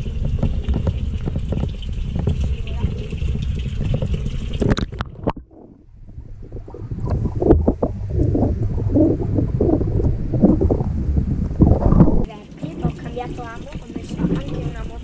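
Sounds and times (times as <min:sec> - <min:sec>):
muffled underwater gurgling: 0:00.0 - 0:15.0.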